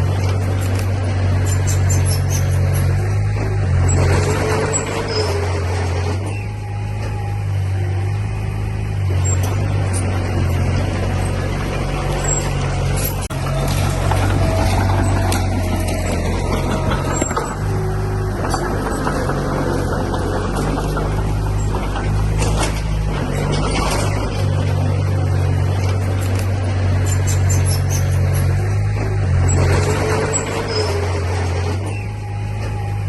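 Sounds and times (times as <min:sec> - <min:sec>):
heavy machinery diesel engine: 0:00.0 - 0:33.0.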